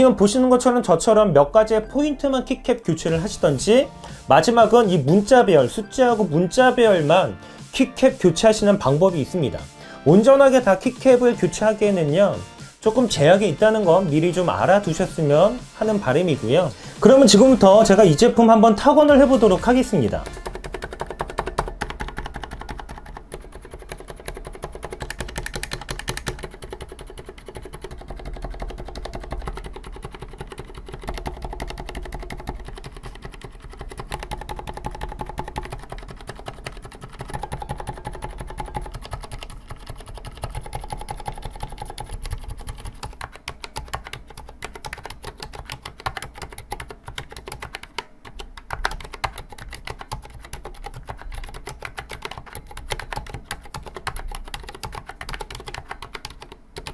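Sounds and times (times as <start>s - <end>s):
muted keyboard typing: 0.0s - 56.9s.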